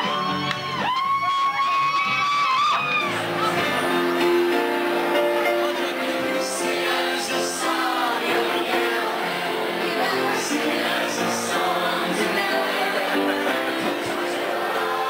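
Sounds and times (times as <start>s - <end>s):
music with held keyboard chords: 0.0s - 15.0s.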